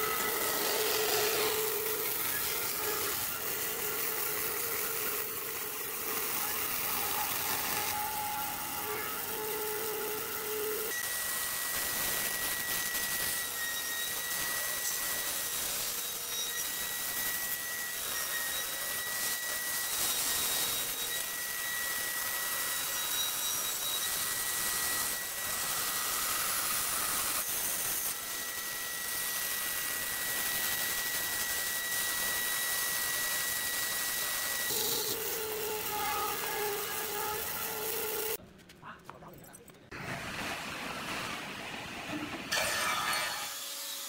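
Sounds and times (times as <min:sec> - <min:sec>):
bandsaw cutting wood: 0:00.0 - 0:38.4.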